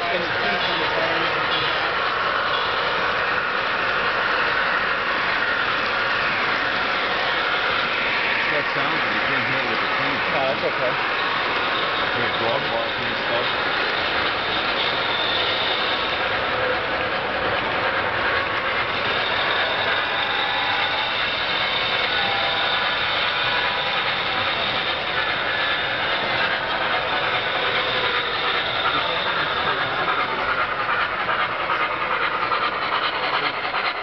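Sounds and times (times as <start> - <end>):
model train wheels on track: 0.0 - 34.0.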